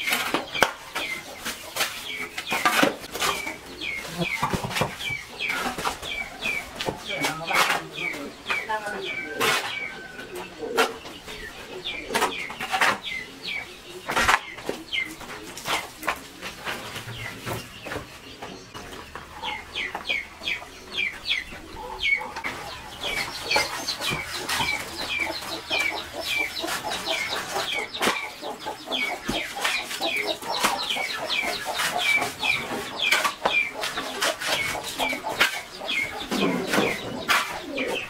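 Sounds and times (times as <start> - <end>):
chickens peeping: 0.0 - 38.0.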